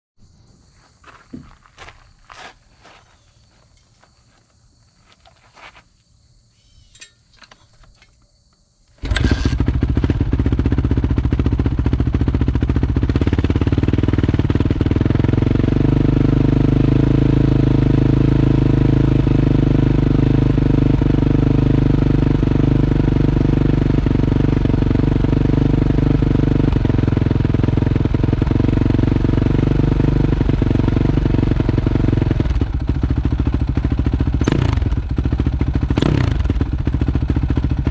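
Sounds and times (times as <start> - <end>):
motorcycle engine starting and idling: 6.6 - 37.9.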